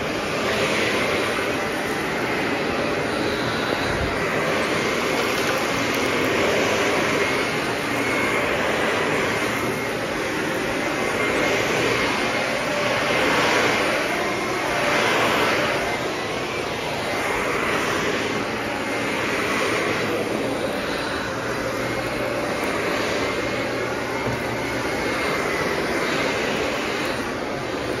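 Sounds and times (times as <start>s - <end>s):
upright vacuum cleaner on carpet: 0.0s - 28.0s.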